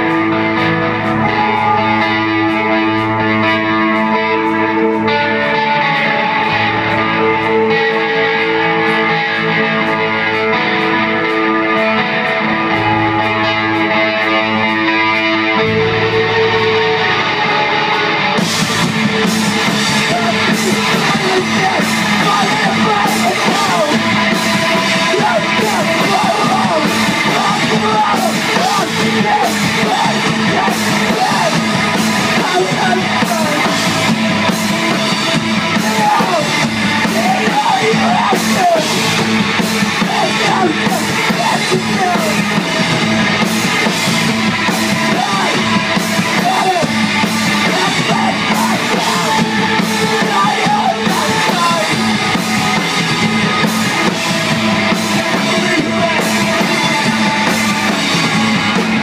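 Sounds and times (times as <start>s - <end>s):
bass guitar: 0.0s - 59.0s
drum kit: 0.0s - 59.0s
electric guitars: 0.0s - 59.0s
person singing: 0.0s - 59.0s.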